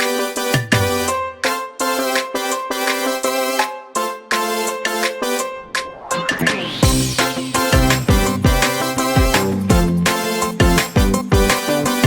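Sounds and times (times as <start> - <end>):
keyboard chord struck repeatedly: 0.0 - 12.0.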